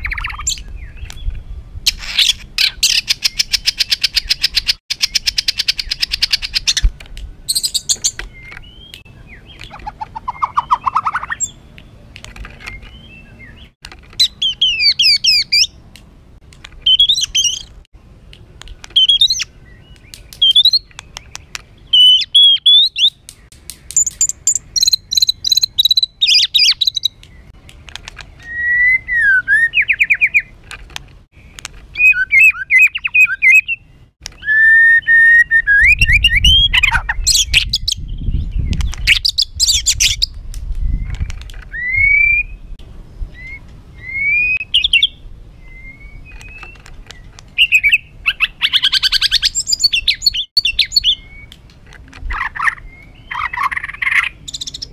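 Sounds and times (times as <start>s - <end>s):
songbird singing harsh song: 0.0s - 15.9s, 16.7s - 17.8s, 18.6s - 30.6s, 31.4s - 54.9s.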